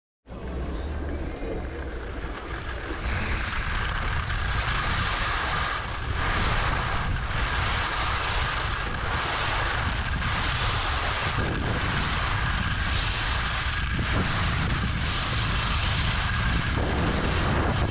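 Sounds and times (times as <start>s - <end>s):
wind buffeting microphone: 0.4s - 17.9s
skis hissing over snow: 2.4s - 17.9s.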